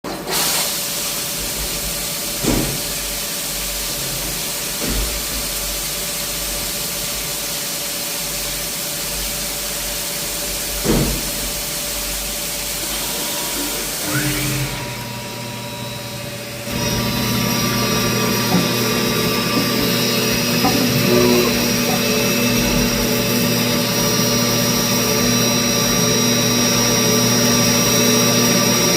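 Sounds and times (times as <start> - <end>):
machine hissing: 0.2 - 28.9.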